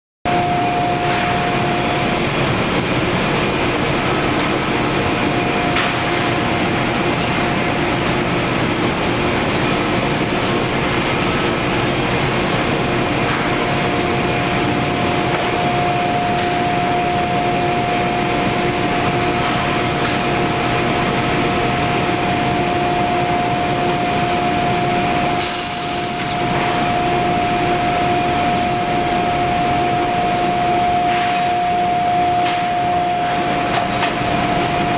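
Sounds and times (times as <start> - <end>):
high whine falling in pitch: 0.3 - 34.9.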